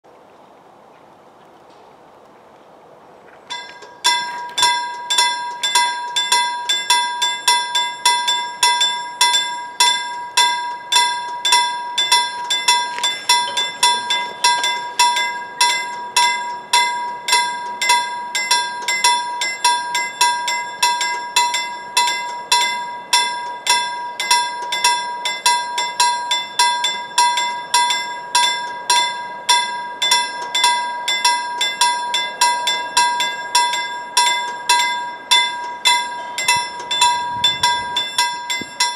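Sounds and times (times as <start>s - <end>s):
level crossing bell ringing: 3.5s - 38.9s.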